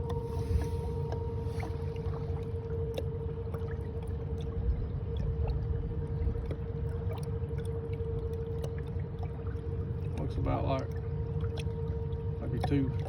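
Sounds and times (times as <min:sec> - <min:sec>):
low rumble of water and wind: 0:00.0 - 0:13.0
small ticks and splashes: 0:02.0 - 0:13.0.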